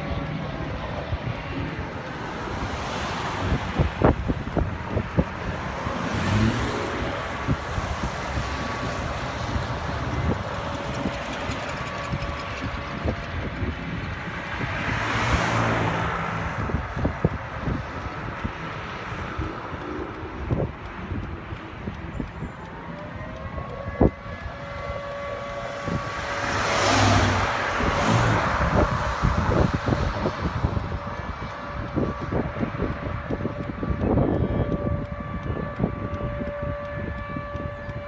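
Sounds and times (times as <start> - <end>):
stormy wind gusts: 0.0 - 38.0.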